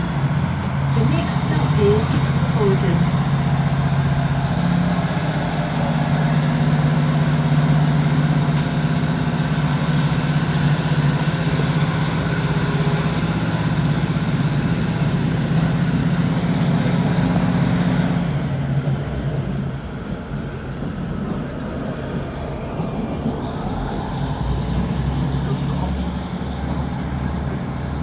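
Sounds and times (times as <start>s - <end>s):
diesel train engine drone: 0.0s - 28.0s
wheel and track noise: 0.0s - 28.0s.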